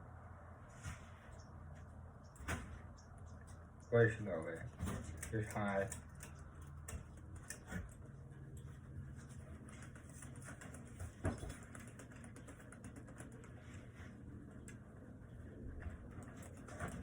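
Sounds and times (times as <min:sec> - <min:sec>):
ceiling fan motor hum: 0:00.0 - 0:17.0
fan ticking and soft knocks: 0:01.3 - 0:17.0.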